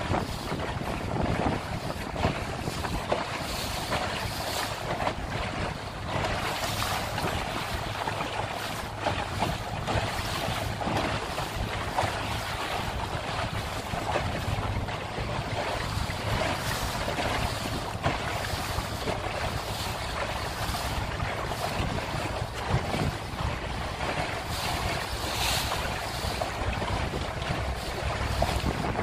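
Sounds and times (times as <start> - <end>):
boat motor hum: 0.0 - 29.0
water splashing against hull: 0.0 - 29.0
wind buffeting microphone: 0.0 - 29.0.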